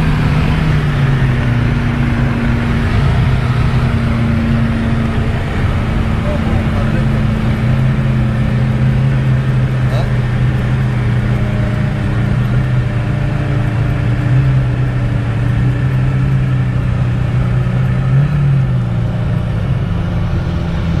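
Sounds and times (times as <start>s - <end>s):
car engine drone: 0.0s - 21.0s
road and wind noise: 0.0s - 21.0s.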